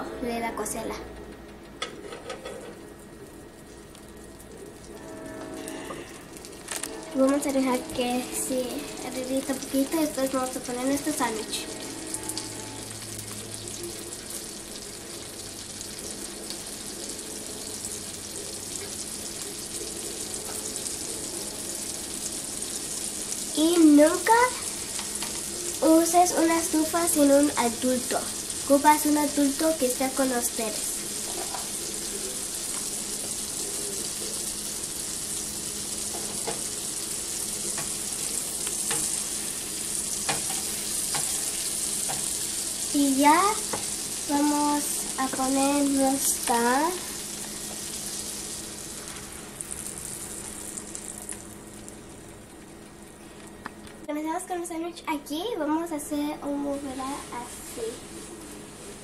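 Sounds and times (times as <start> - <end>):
butter sizzling on griddle: 5.6 - 53.4.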